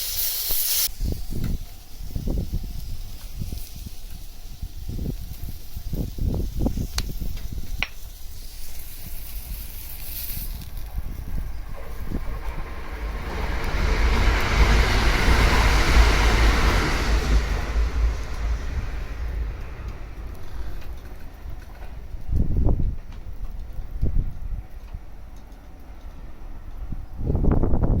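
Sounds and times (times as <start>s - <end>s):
rushing noise with deep rumble: 0.8s - 28.0s.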